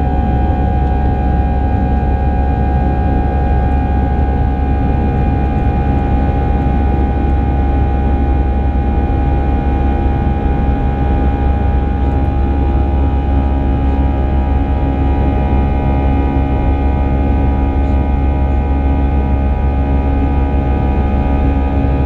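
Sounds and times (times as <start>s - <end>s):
constant whining tones: 0.0s - 22.0s
jet engine drone in cabin: 0.0s - 22.0s.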